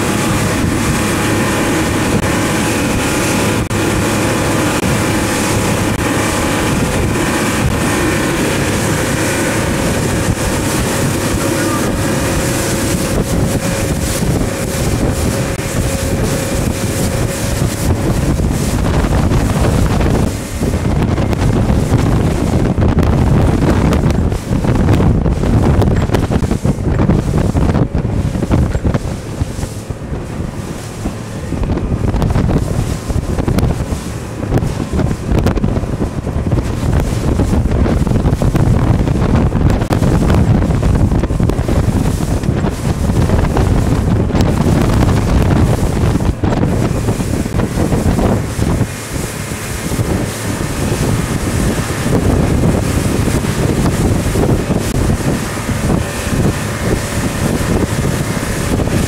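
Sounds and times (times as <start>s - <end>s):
boat motor running: 0.0s - 59.0s
water slapping against hull: 0.0s - 59.0s
wind buffeting microphone: 0.0s - 59.0s.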